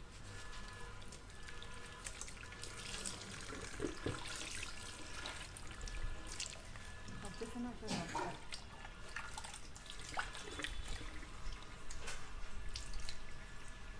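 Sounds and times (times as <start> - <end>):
shower sprayer water splashing: 0.3 - 13.9.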